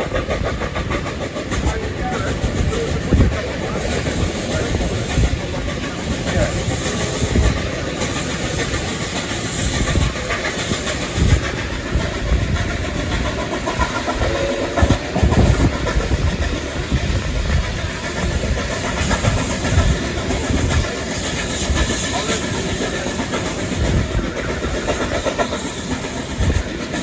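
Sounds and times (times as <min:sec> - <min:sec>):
wheels rumbling on track: 0:00.0 - 0:27.0.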